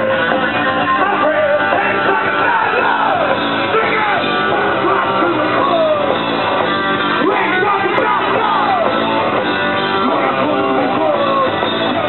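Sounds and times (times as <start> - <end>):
shouted vocals: 0.0 - 6.2, 7.2 - 9.3, 9.9 - 12.0
loud electric guitars: 0.0 - 12.0
punk rock band playing live: 0.0 - 12.0.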